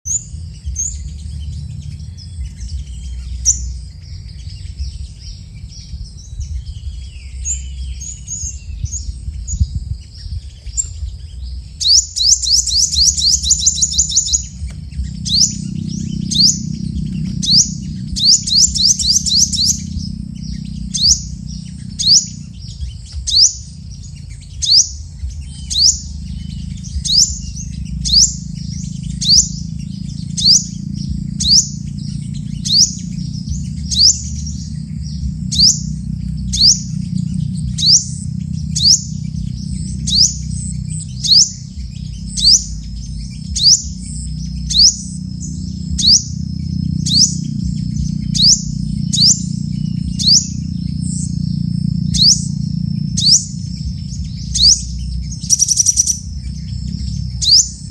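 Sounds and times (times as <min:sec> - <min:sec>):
low steady rumble: 0:00.0 - 0:57.9
sunbirds chirping: 0:00.0 - 0:57.9
bird rattling trills: 0:00.1 - 0:57.9
sharp rising bird note: 0:00.1 - 0:57.9.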